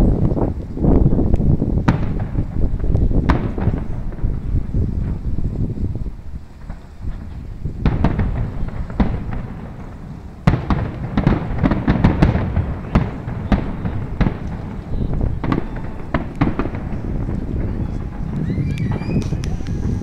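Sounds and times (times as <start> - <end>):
firework shells bursting: 1.9 - 20.0.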